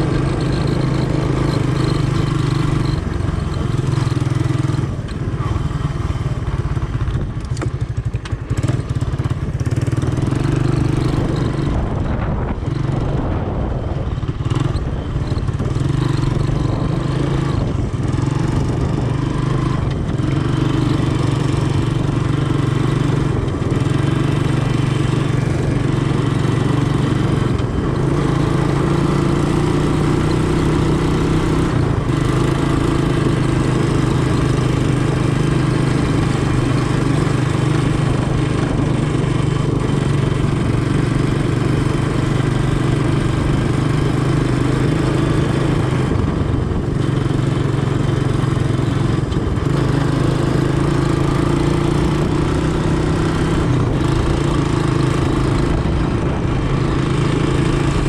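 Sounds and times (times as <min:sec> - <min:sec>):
engine running under way: 0:00.0 - 0:58.0.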